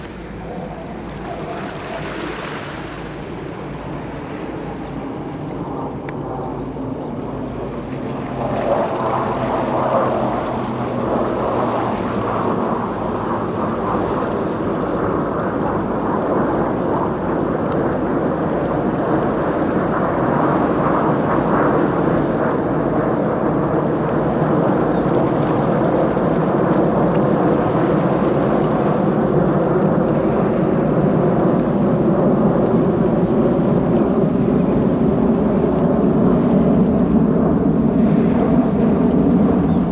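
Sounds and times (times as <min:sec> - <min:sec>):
distant jet aircraft rumble: 0:00.0 - 0:39.9
wind buffeting microphone: 0:00.0 - 0:39.9.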